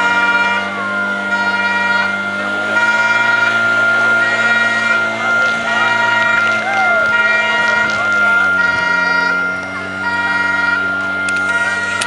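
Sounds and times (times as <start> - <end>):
high whine: 0.0 - 12.0
pump engine running at high revs: 0.0 - 12.0.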